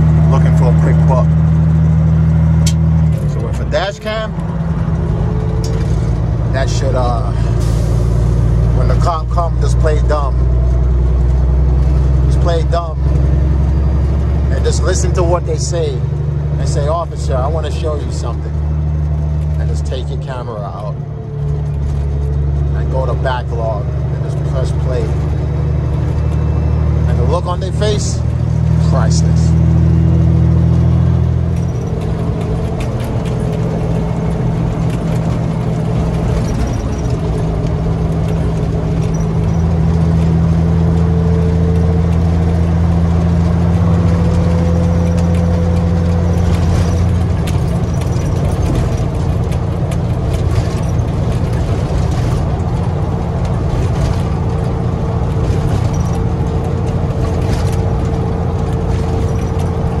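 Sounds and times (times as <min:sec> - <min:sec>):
diesel engine drone in cab: 0:00.0 - 1:00.0
road noise: 0:00.0 - 1:00.0
cab rattles clicking: 0:00.2 - 1:00.0.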